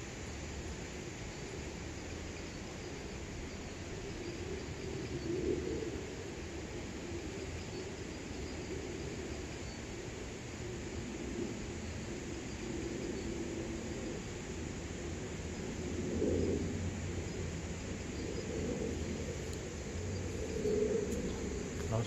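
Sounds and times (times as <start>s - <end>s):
faint insect chirping: 0.0s - 22.0s
outdoor background noise: 0.0s - 22.0s.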